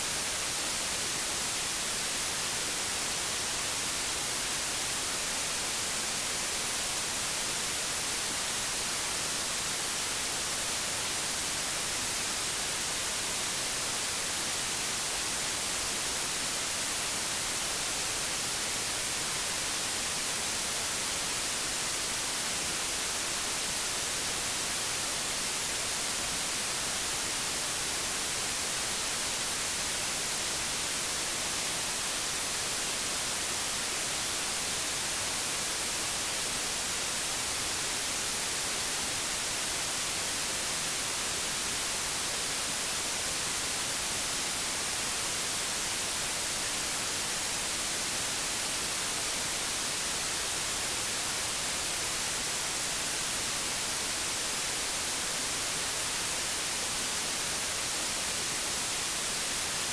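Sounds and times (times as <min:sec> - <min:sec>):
television static hiss: 0:00.0 - 0:59.9.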